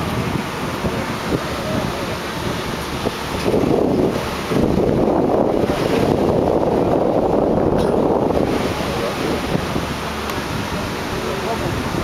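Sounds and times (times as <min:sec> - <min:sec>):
boat running noise: 0:00.0 - 0:12.0
wind buffeting microphone: 0:00.0 - 0:12.0.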